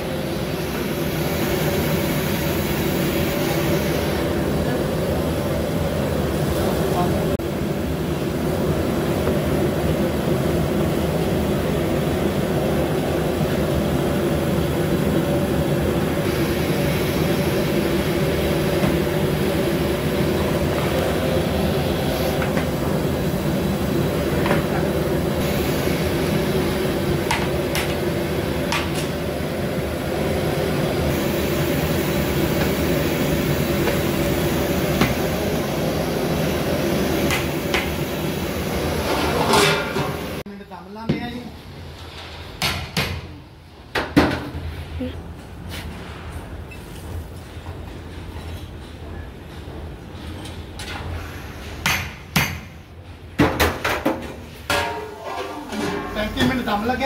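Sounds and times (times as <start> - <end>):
gas burner roaring: 0.0 - 40.5, 50.8 - 57.0.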